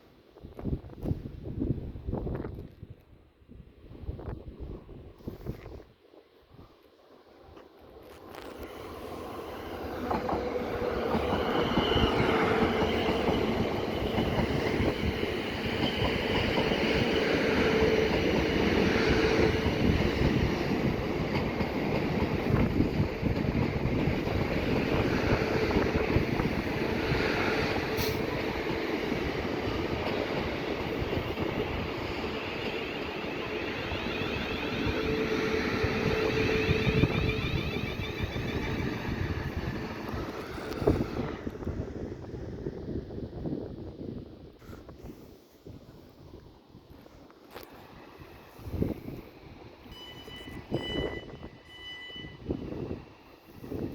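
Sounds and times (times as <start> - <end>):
train rumbling along track: 7.0 - 53.9.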